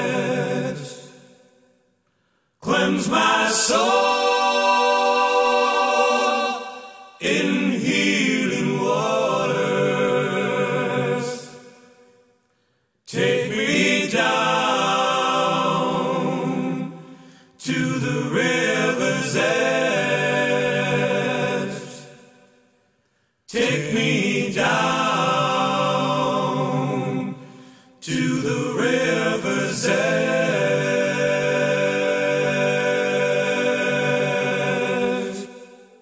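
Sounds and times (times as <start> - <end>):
slow singing voices: 0.0 - 36.0.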